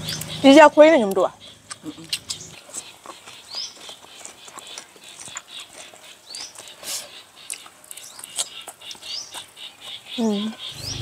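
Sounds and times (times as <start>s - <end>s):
close-miked chewing and crunching: 0.0s - 11.0s.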